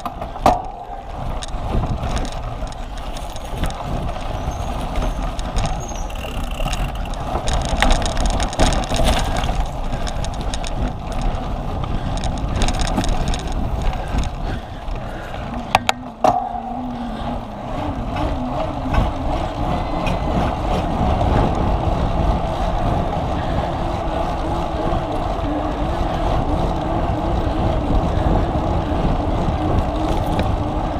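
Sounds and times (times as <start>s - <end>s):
bike rumbling and rattling: 0.0s - 30.9s
wind on microphone: 0.0s - 30.9s.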